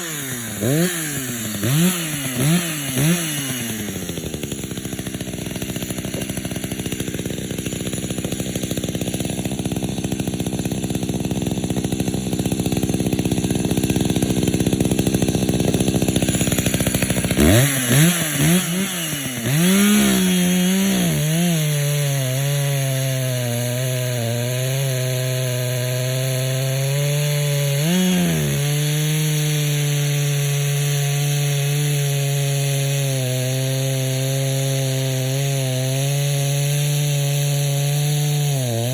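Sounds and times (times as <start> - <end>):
chainsaw running hard: 0.0 - 38.9.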